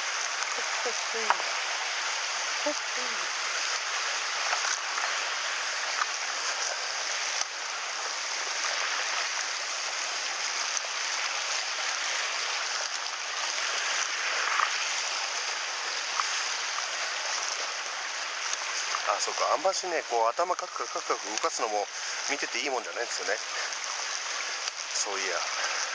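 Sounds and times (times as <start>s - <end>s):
stream rushing over rocks: 0.0s - 25.9s.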